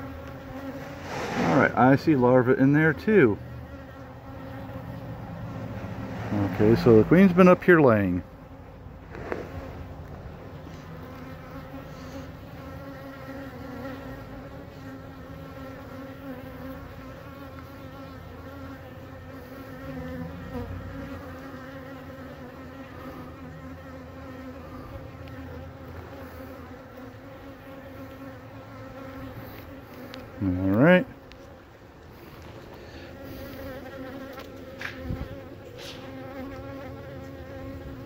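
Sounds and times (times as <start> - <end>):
bees buzzing: 0.0 - 38.0.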